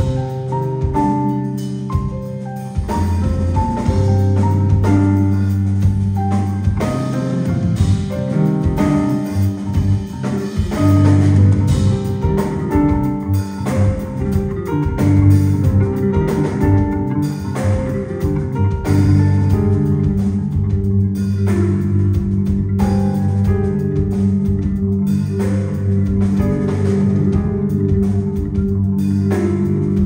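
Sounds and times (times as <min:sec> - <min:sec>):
live band playing rock: 0:00.0 - 0:30.0
prominent bass line: 0:00.0 - 0:30.0.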